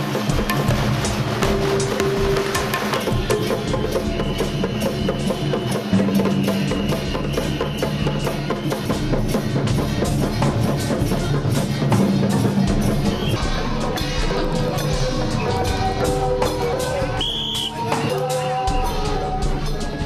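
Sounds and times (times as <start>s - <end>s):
rapid percussion music: 0.0s - 20.0s.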